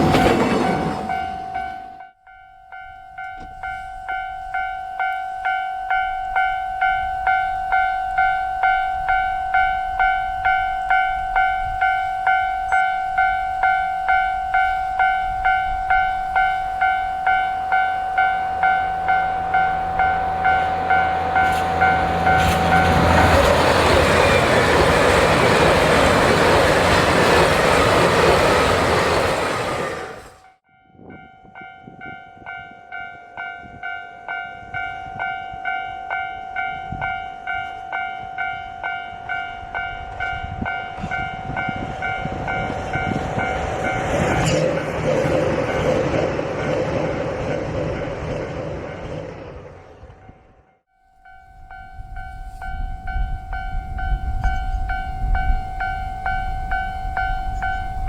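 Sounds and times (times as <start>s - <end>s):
train passing: 0.0s - 30.6s, 31.6s - 58.0s
level-crossing alarm bell: 0.2s - 44.6s, 50.9s - 58.0s.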